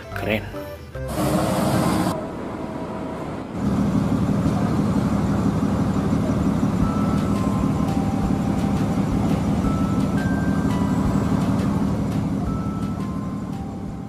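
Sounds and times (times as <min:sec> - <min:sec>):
diesel bus engine rumbling: 0:00.0 - 0:14.0.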